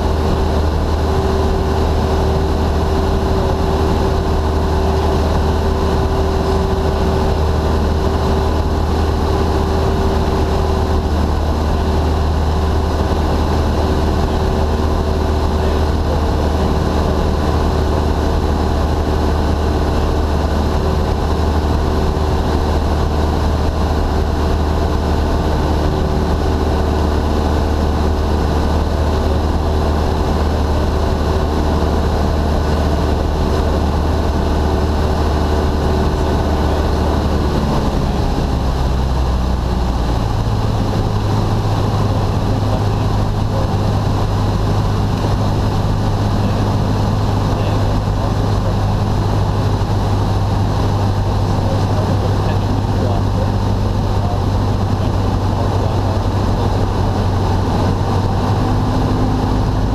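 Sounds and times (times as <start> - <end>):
airplane engine drone in cabin: 0.0 - 59.9.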